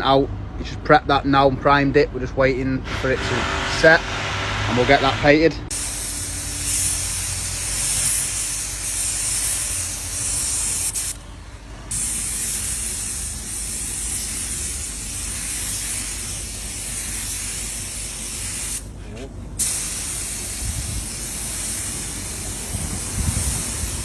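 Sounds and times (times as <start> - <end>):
paint spray gun hissing: 2.9 - 11.2, 11.9 - 19.0, 19.6 - 24.0.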